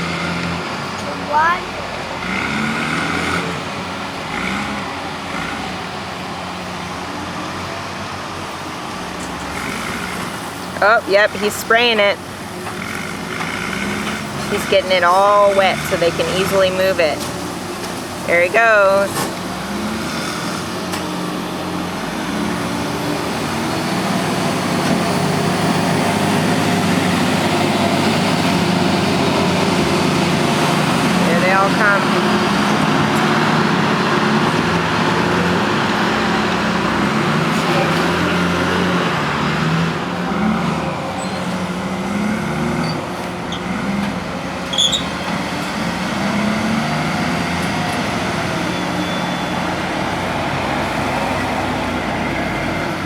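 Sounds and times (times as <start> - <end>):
heavy diesel engines running: 0.0 - 53.0.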